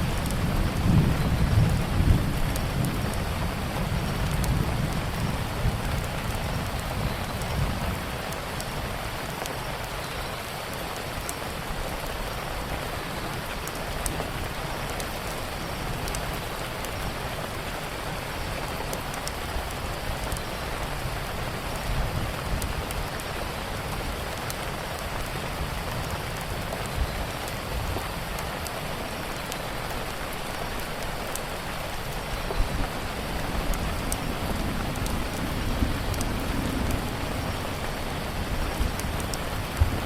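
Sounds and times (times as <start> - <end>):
rain falling: 0.0 - 40.0
wood fire crackling: 0.0 - 40.0.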